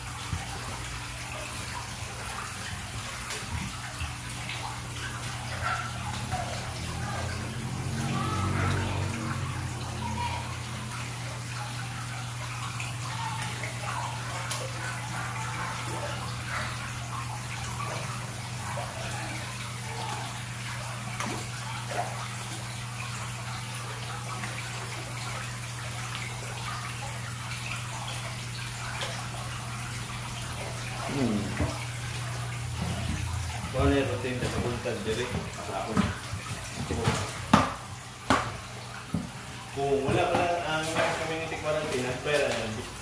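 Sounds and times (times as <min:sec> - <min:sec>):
water pouring and splashing: 0:00.0 - 0:43.0.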